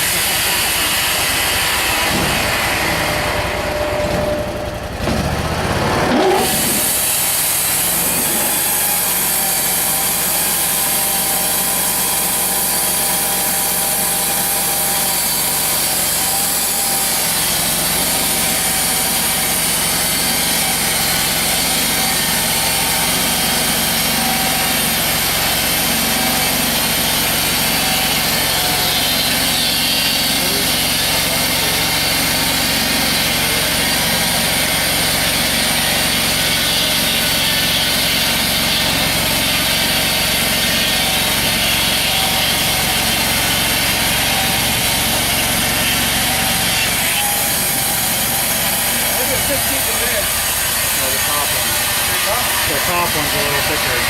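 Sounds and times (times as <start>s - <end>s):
band blade sawing wood: 0.0s - 54.0s
sawmill engine running: 0.0s - 54.0s.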